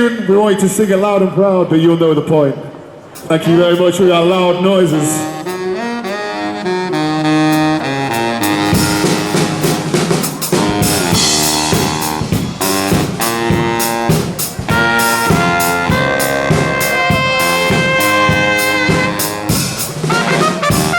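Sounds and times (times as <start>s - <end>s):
brass band playing: 3.1s - 20.9s.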